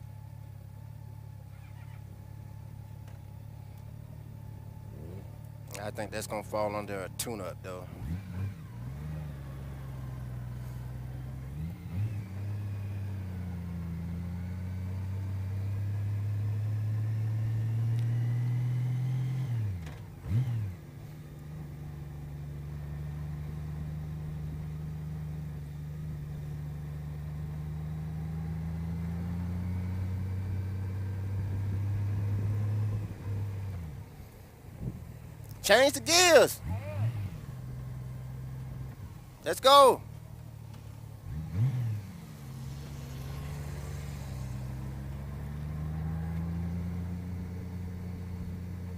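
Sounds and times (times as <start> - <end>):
motorcycle engine at low revs: 0.0 - 35.5, 36.6 - 39.4, 40.0 - 48.9.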